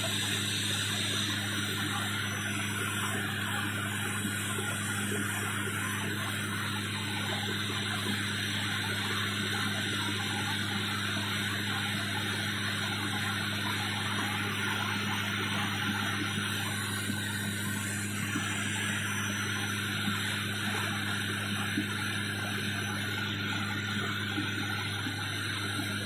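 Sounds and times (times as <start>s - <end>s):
propeller plane cabin drone: 0.0s - 26.0s.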